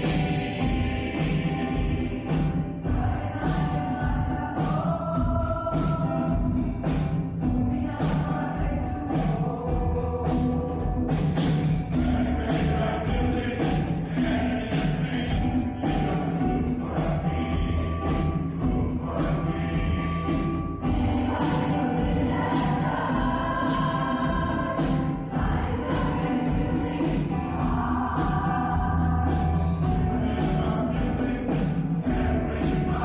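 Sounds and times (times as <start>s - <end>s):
jingling hand percussion: 0.0s - 33.0s
mixed choir singing: 0.0s - 33.0s.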